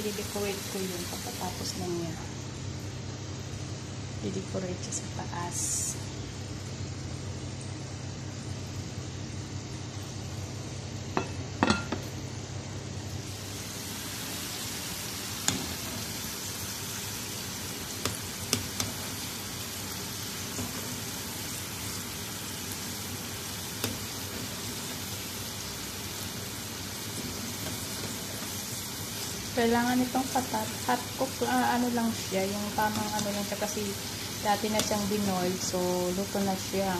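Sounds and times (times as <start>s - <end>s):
potatoes sizzling in hot oil: 0.0s - 36.9s.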